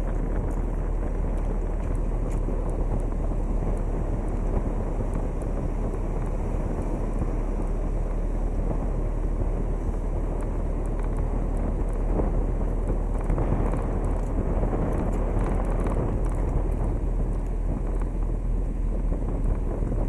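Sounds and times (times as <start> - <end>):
car road and engine rumble: 0.0 - 20.0
wind buffeting microphone: 0.0 - 20.0.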